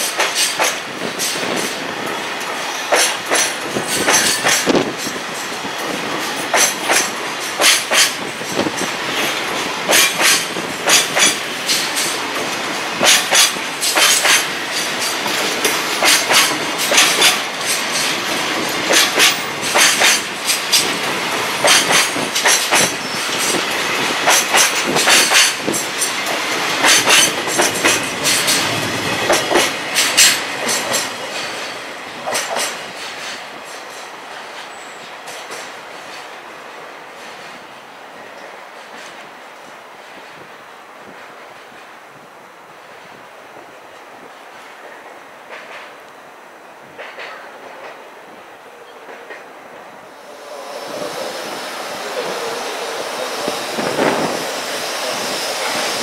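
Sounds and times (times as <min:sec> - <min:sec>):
train wheels clacking on rail joints: 0:00.0 - 0:36.5, 0:37.2 - 0:41.9, 0:43.9 - 0:46.1, 0:46.8 - 0:49.9
train rolling rumble: 0:00.0 - 0:56.0.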